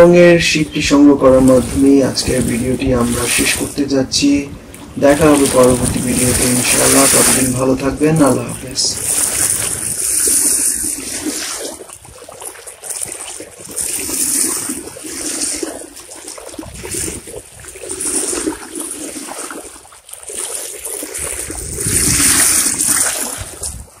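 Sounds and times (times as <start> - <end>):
water rushing along boat hull: 0.0 - 24.0.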